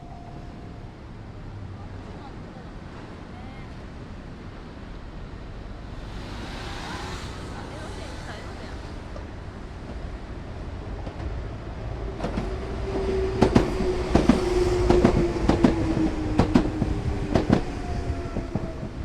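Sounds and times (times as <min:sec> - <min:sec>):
train hum: 0:00.0 - 0:19.0.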